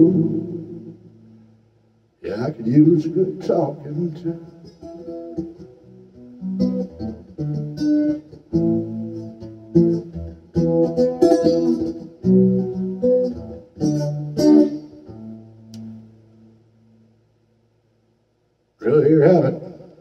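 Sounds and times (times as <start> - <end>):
acoustic guitar chords: 0.0 - 1.6, 2.2 - 17.1.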